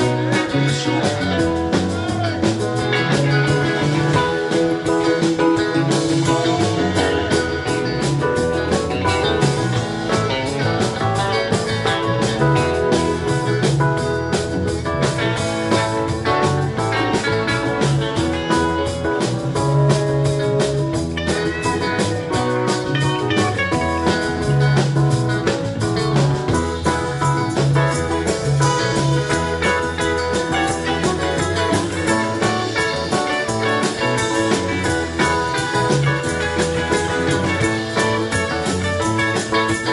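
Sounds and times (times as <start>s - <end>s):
bass guitar: 0.0s - 39.9s
drum kit beat: 0.0s - 39.9s
electric guitars: 0.0s - 39.9s
keyboard: 0.0s - 39.9s.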